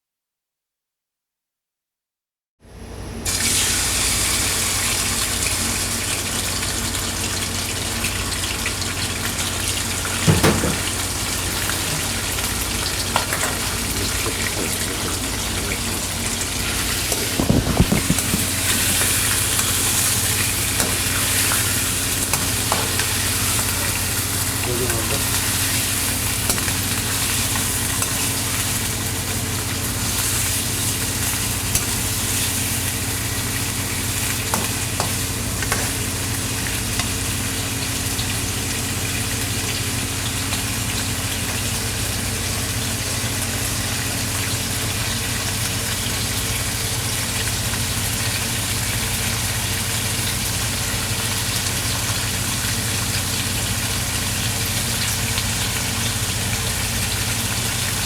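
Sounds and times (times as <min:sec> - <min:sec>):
food sizzling in hot oil: 0:03.2 - 0:58.0.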